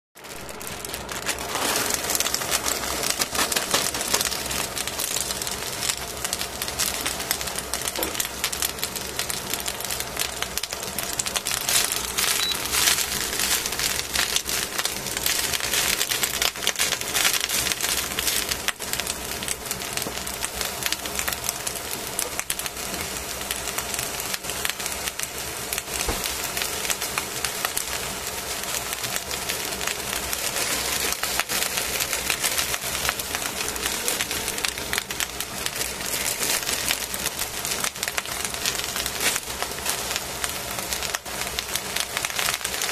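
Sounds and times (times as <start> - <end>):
vegetables crackling and sizzling: 0.2 - 42.9.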